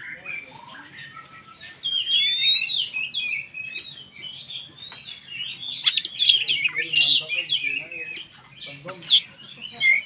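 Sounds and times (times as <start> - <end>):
bird singing whistles and warbles: 0.0 - 10.0.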